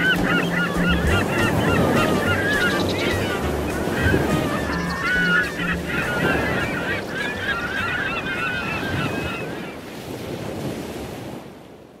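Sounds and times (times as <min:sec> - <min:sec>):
birds warbling cries: 0:00.0 - 0:09.9
surf: 0:00.0 - 0:11.6.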